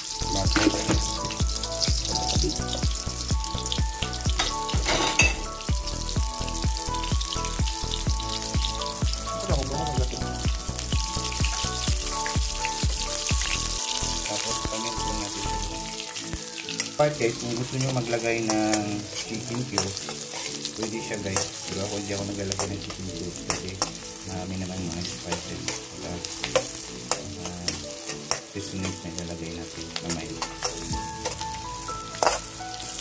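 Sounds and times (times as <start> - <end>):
background music with beat: 0.0 - 33.0
garlic and onion sizzling: 0.0 - 33.0.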